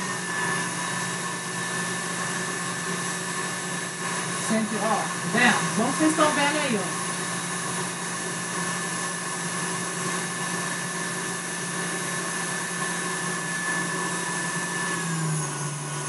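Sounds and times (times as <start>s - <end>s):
stand mixer motor whine: 0.0s - 16.0s.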